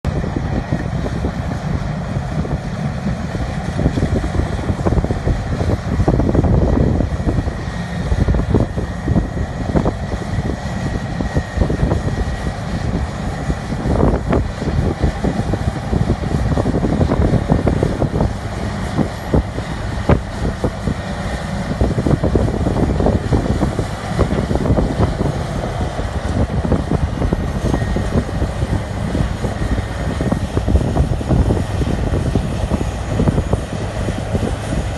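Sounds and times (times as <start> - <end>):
heavy diesel machinery rumbling: 0.0 - 34.9.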